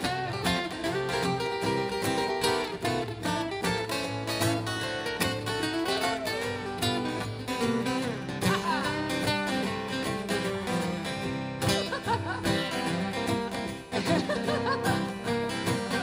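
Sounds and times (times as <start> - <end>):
lead guitar with bending notes: 0.0 - 16.0
strummed acoustic guitar rhythm: 0.0 - 16.0.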